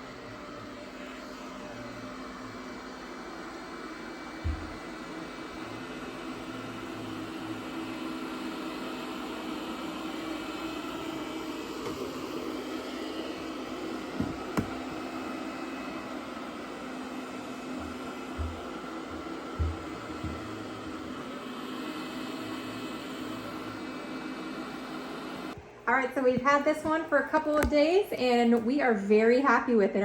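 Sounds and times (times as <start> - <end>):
robot vacuum whirring: 0.1 - 25.5.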